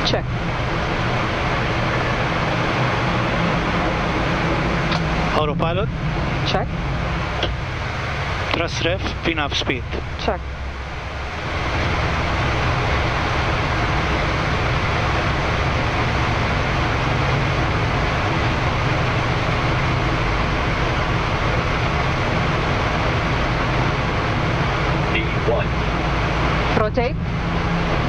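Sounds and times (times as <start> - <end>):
jet engines at takeoff thrust: 0.0 - 28.0
low rumble: 0.0 - 28.0.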